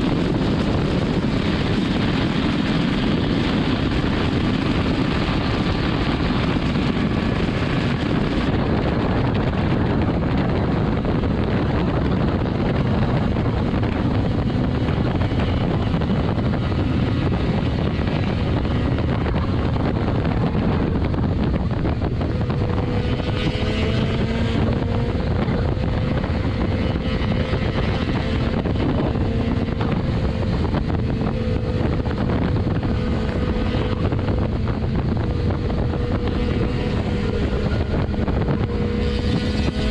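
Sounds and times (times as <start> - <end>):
motorcycle engine: 0.0 - 39.9
wind rush over microphone: 0.0 - 39.9.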